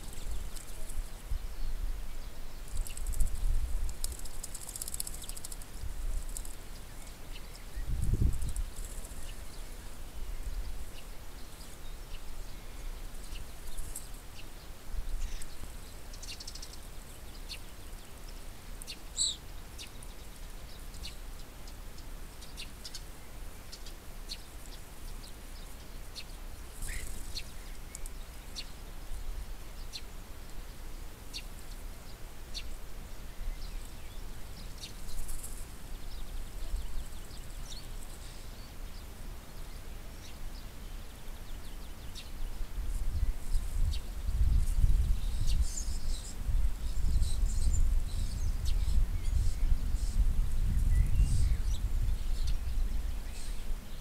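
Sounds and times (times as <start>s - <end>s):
starlings chirping: 0.0s - 54.0s.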